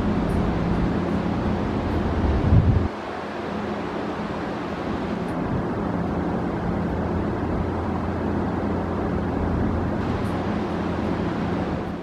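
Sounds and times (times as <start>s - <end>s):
standing electric train humming: 0.0s - 12.0s.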